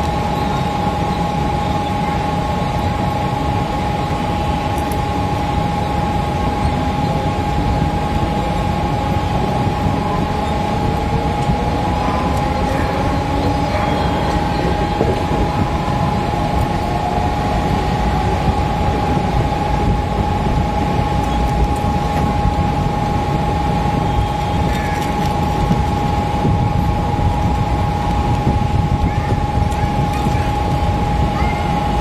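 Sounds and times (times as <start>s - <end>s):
high whine: 0.0s - 32.0s
train wheels rumbling on track: 4.7s - 31.5s.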